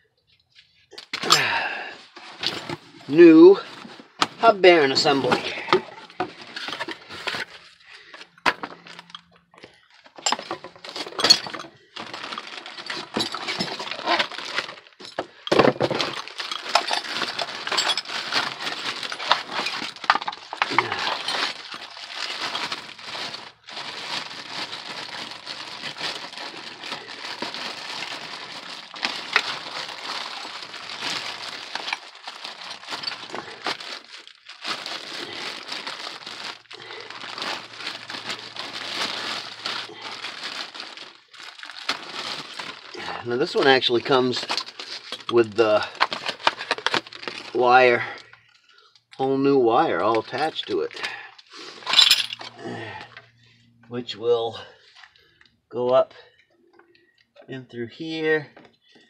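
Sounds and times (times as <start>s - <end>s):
plastic bag crinkling: 1.2s - 48.9s, 50.0s - 53.2s.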